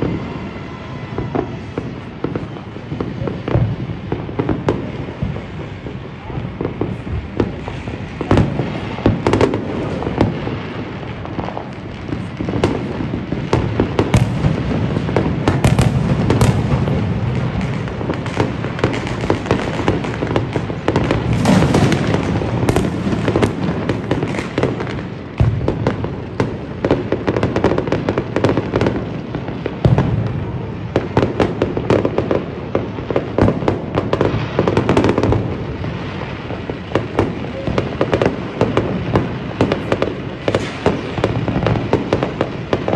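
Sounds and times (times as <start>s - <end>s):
firecrackers popping and crackling: 0.0s - 42.9s
rumble of firework bangs: 0.0s - 42.9s.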